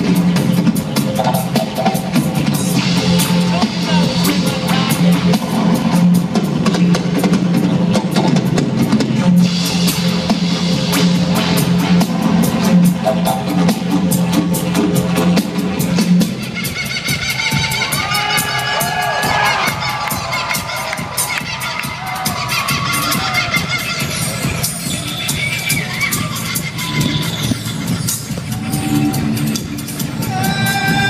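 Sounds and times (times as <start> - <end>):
drum kit: 0.0 - 31.0.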